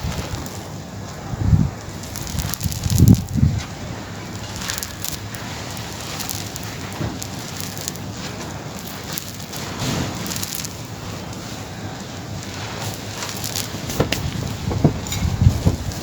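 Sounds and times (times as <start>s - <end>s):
brittle material crackling: 0.0s - 16.0s.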